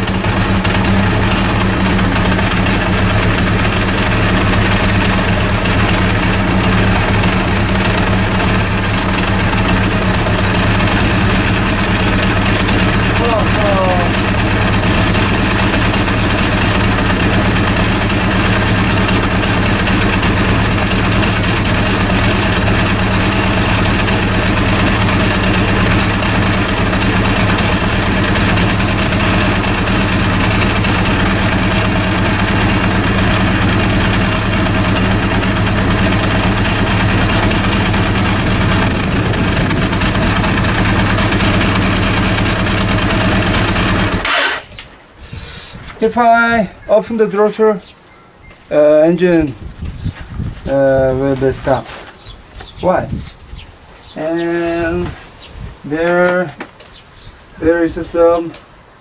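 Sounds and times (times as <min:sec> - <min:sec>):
motorcycle engine idling: 0:00.0 - 0:45.0, 0:49.2 - 0:52.9.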